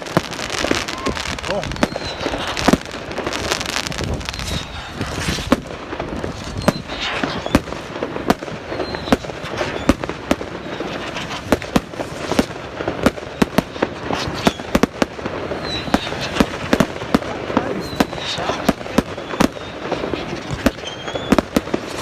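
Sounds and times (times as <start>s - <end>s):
firework whistles: 0.0s - 22.0s
fireworks bangs and crackles: 0.0s - 22.0s.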